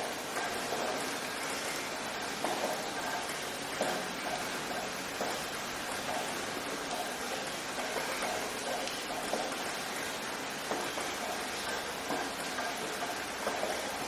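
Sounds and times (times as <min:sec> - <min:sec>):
raindrops pattering: 0:00.0 - 0:14.0
steady rain hiss: 0:00.0 - 0:14.0.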